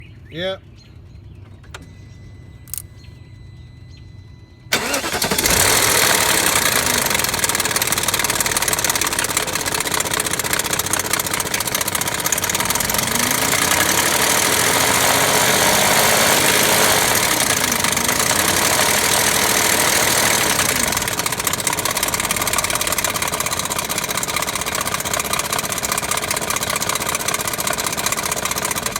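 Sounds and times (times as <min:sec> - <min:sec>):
car engine starting and running: 0:01.1 - 0:28.9.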